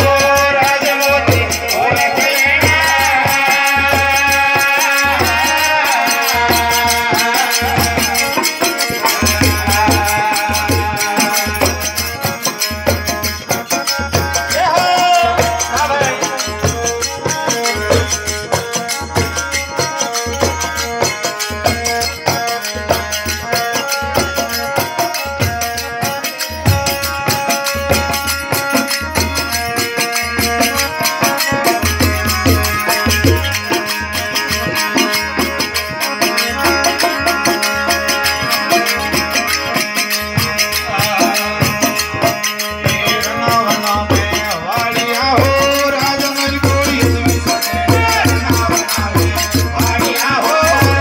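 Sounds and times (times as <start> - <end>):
harmonium sustained notes: 0.0 - 51.0
jingling rattling percussion: 0.0 - 51.0.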